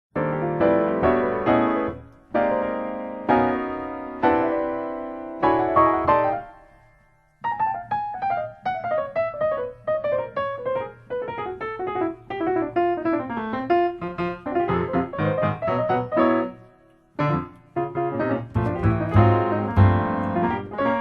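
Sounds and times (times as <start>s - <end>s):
piano music: 0.2s - 21.0s.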